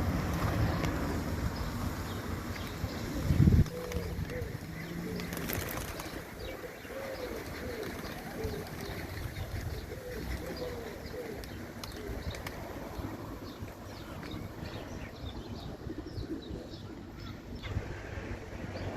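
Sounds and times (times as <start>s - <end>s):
pigeons cooing: 0.0s - 18.2s.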